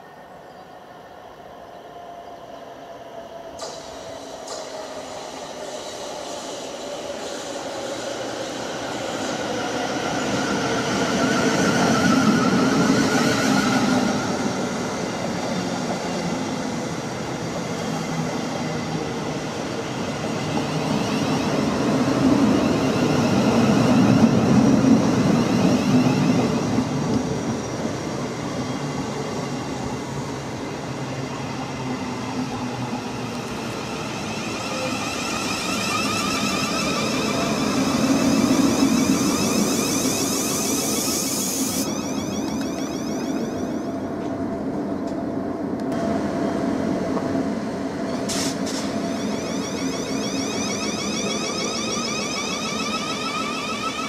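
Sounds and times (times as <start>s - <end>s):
train wheels rumbling on rails: 3.4s - 54.0s.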